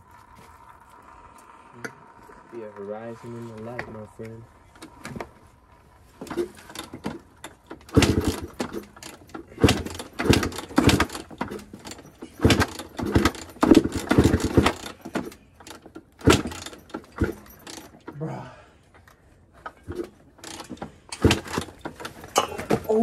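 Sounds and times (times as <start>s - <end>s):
dirt bike engine turning over: 0.0s - 18.4s, 19.0s - 23.0s.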